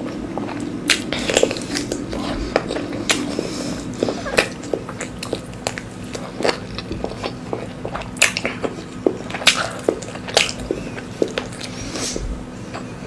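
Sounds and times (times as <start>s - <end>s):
chewing with wet mouth clicks: 0.0s - 11.8s.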